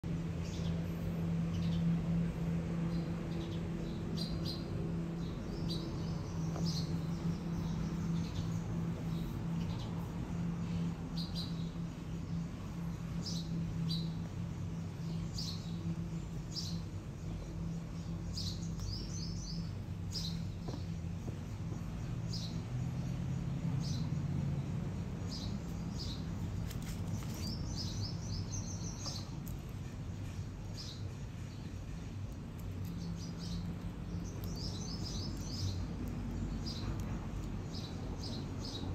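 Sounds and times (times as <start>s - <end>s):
small birds chirping: 0.0s - 38.9s
steady low hum: 0.0s - 38.9s.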